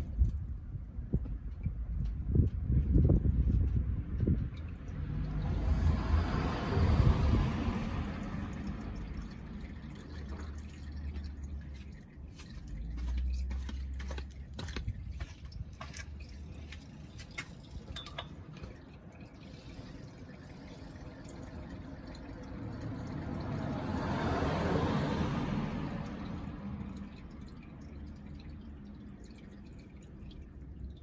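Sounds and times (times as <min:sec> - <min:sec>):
oil dripping into a pan: 0:04.1 - 0:31.0
oil trickling into a pan: 0:04.4 - 0:31.0.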